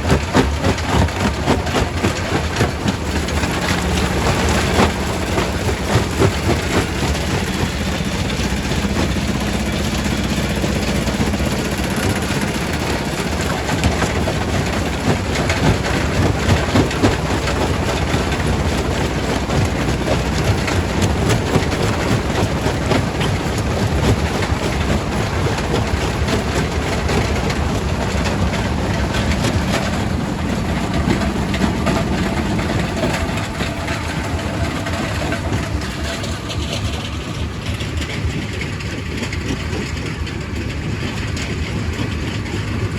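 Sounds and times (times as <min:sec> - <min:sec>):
rock crusher machine drone: 0:00.0 - 0:42.9.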